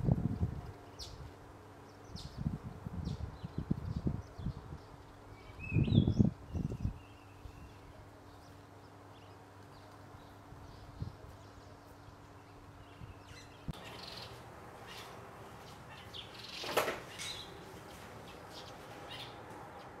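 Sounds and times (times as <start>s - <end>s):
birds chirping: 0.8s - 20.0s.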